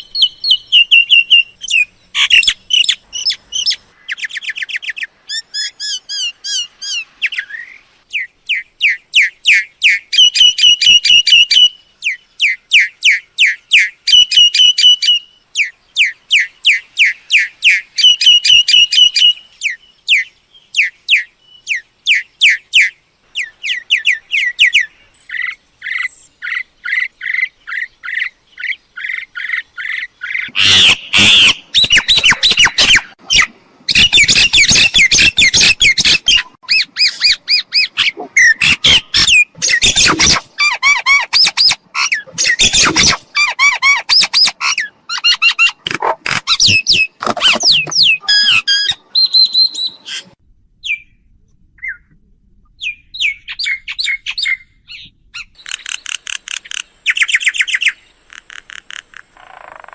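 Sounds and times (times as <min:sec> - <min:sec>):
birds squawking and chattering: 0:00.0 - 0:51.2.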